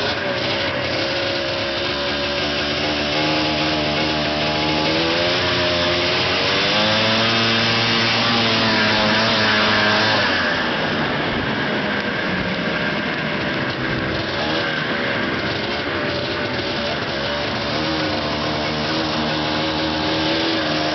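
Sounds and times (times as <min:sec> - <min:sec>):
snowmobile engine revving: 0:00.0 - 0:20.9.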